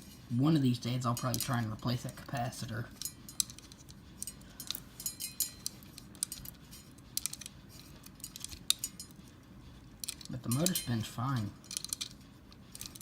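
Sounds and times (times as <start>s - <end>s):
ceiling fan hum: 0.0s - 13.0s
light metallic clicks and clinks: 0.6s - 9.4s, 10.0s - 12.2s.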